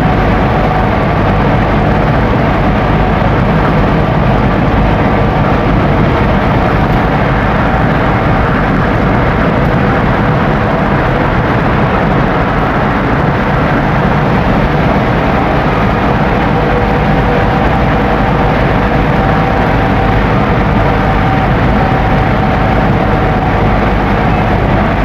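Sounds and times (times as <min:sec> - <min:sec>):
diesel bus engine: 0:00.0 - 0:25.0
faint steady whine: 0:00.0 - 0:25.0
road and wind noise: 0:00.0 - 0:25.0.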